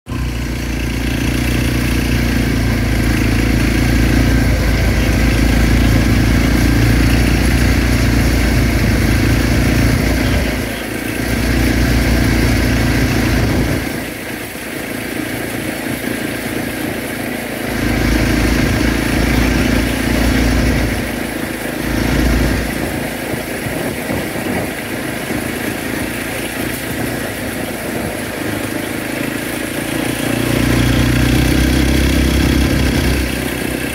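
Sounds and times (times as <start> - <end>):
quad bike engine running: 0.1 - 33.9.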